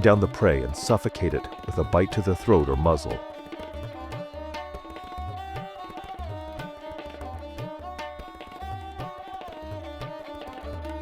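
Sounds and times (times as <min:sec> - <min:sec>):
tabla-like drum beat: 0:00.0 - 0:11.0.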